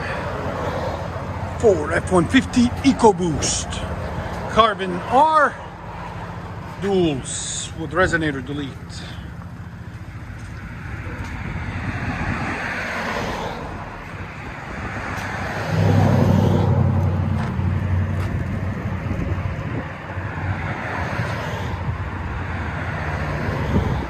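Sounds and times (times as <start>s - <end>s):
road noise: 0.0s - 24.0s
truck exhaust drone: 0.0s - 24.0s.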